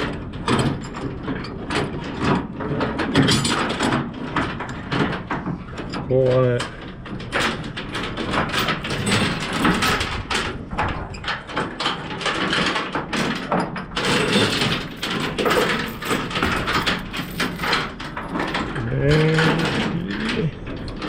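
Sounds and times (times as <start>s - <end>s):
strap and metal hooks clattering: 0.0s - 21.0s.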